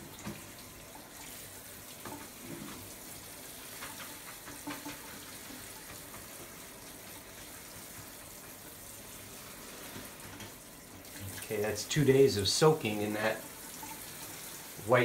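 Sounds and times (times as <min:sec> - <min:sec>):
shower head spraying water: 0:00.0 - 0:15.0.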